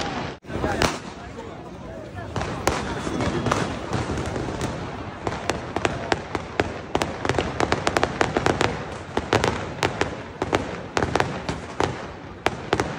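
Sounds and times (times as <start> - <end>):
fireworks bangs and pops: 0.0 - 1.5, 2.1 - 12.9.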